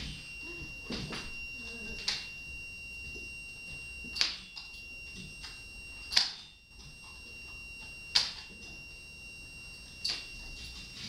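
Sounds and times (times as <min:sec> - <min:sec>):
faint high electronic tone: 0:00.0 - 0:11.0.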